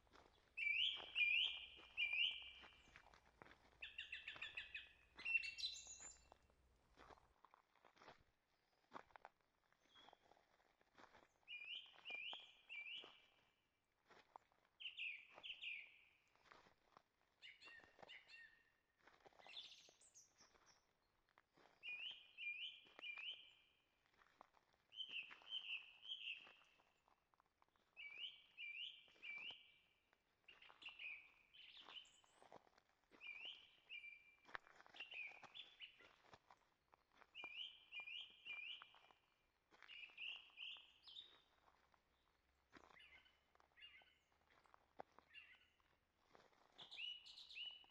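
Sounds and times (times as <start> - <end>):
soft footsteps on forest trail: 0.0 - 47.9.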